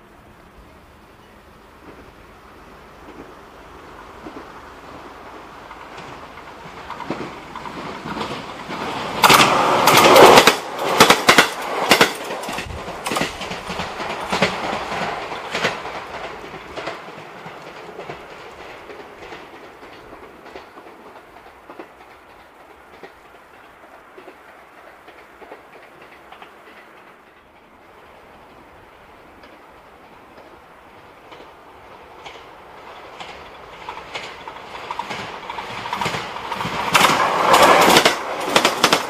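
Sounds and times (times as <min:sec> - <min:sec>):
train rushing past: 0:00.0 - 0:39.0
wheels clattering over rail joints: 0:04.2 - 0:27.8, 0:29.3 - 0:39.0.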